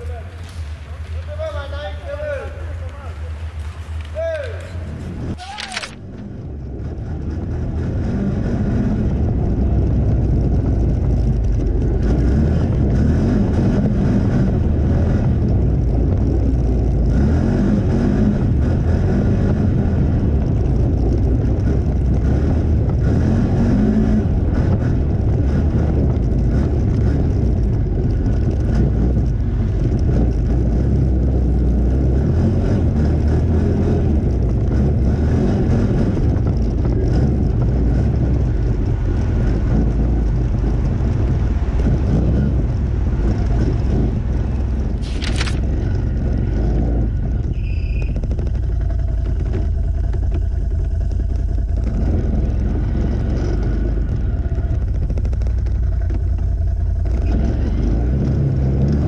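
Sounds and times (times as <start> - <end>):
off-road vehicle engine running: 0.0 - 59.0
tyres rumbling on snowy dirt: 0.0 - 59.0.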